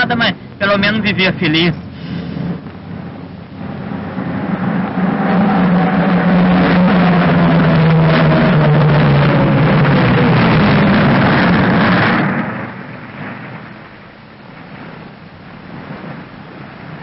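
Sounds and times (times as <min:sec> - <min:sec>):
propeller plane droning overhead: 0:00.3 - 0:17.0.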